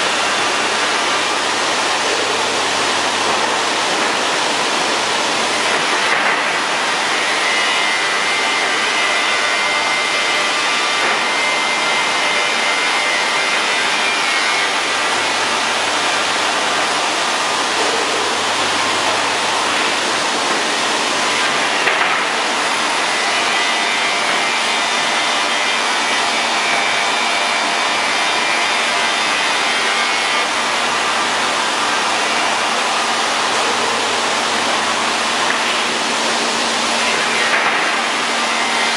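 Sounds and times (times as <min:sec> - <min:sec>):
sanding machine running: 0:00.0 - 0:38.9.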